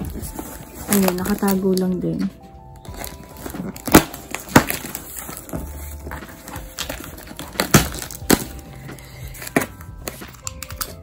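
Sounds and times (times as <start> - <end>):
cardboard flaps rustling: 0.0 - 1.9, 2.9 - 10.2
packing tape tearing: 0.0 - 2.0, 2.8 - 11.0.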